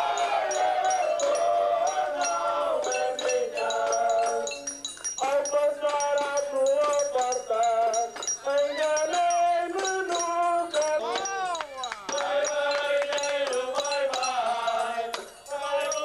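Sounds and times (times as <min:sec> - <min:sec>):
high chiming ticks: 0:00.0 - 0:16.0.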